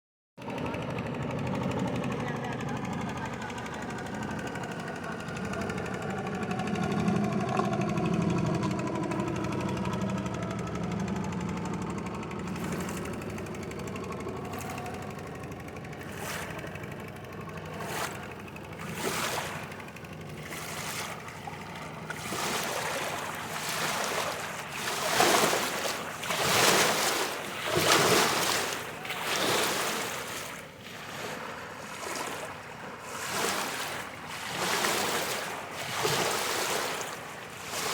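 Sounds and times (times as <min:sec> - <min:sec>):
boat engine hum: 0:00.4 - 0:37.9
river water splashing: 0:01.6 - 0:37.9.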